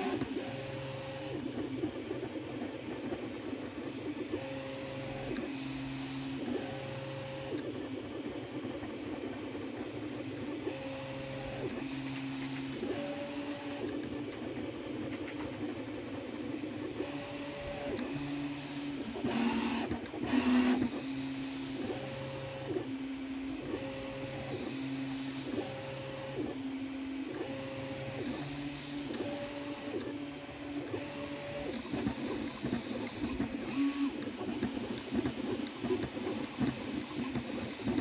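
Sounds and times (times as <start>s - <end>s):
printer stepper motors whining: 0.0s - 38.0s.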